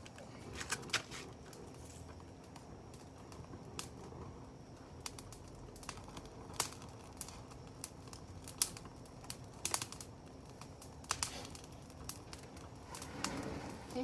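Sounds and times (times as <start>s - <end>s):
low steady hiss: 0.0s - 14.0s
wood fire crackling and popping: 0.0s - 14.0s.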